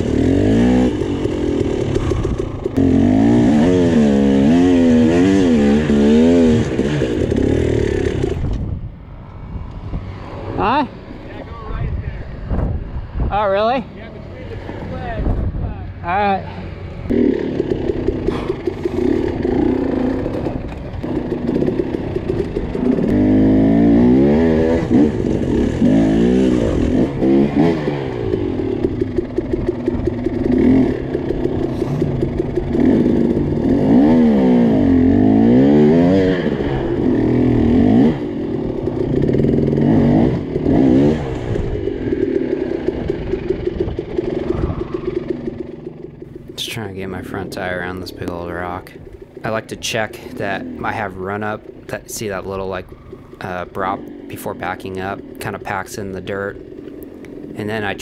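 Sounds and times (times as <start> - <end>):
dirt bike engine revving: 0.0 - 8.8, 14.6 - 58.0.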